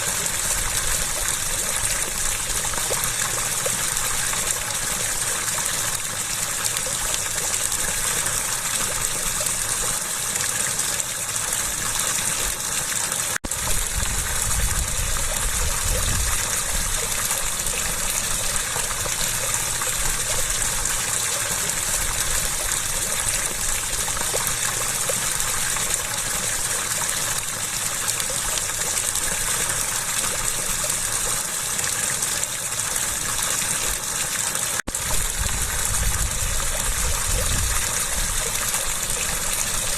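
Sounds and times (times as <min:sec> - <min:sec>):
water gushing: 0:00.0 - 0:39.9.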